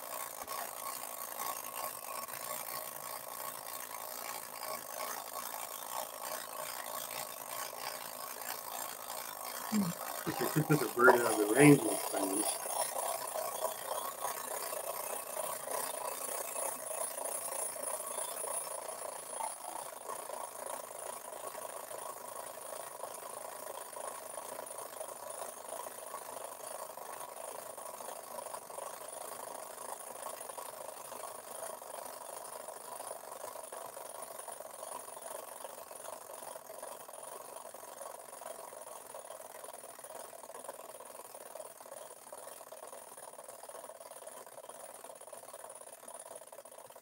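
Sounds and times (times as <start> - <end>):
toy airplane motor running: 0.0 - 47.0.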